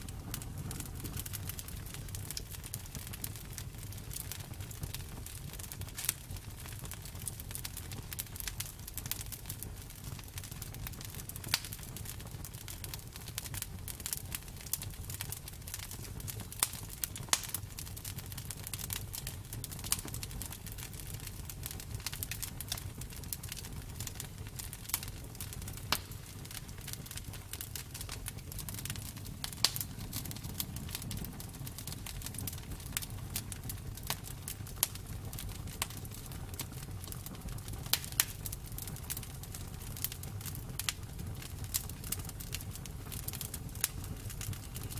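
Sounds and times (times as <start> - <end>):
loud fire pops: 0.0 - 44.9
wood fire crackling: 0.0 - 44.9.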